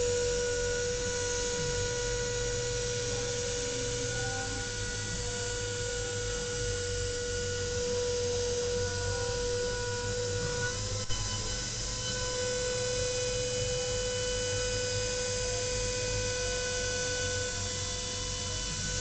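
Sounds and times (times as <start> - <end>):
milling spindle whine: 0.0 - 19.0.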